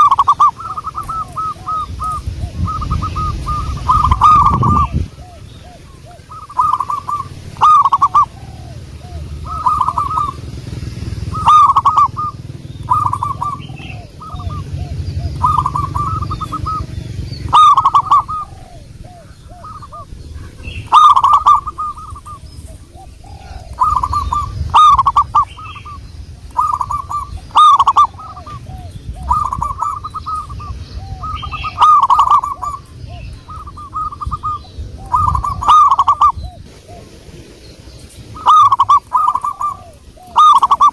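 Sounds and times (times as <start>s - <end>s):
dove cooing: 0.0s - 40.9s
steady low rumble: 0.0s - 40.9s.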